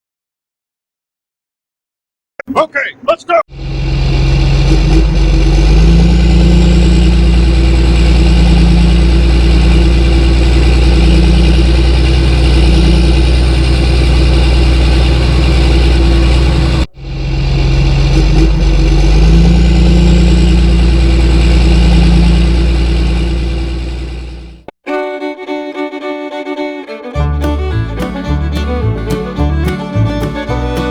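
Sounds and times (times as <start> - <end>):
engine droning: 2.5 - 30.9.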